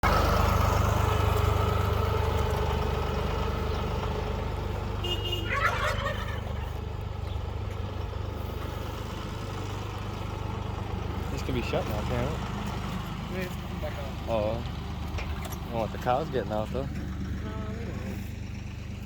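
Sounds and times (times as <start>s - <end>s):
engine running low: 0.0s - 19.0s.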